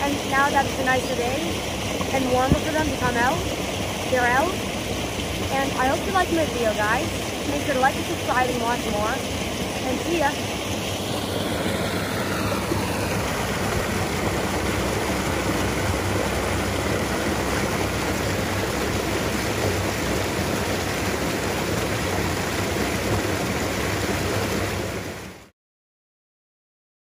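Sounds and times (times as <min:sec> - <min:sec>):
small waterfall rushing: 0:00.0 - 0:25.5.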